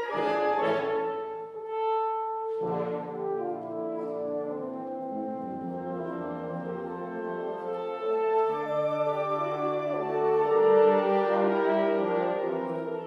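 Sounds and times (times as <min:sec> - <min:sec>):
french horns playing chords: 0:00.0 - 0:13.0.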